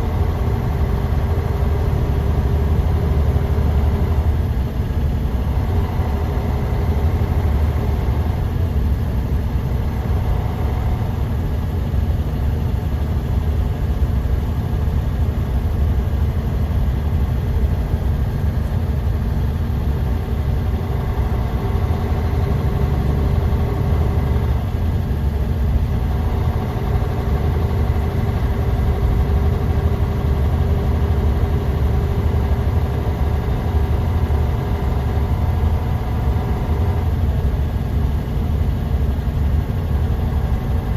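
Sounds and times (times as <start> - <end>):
bus engine rumbling: 0.0 - 40.9.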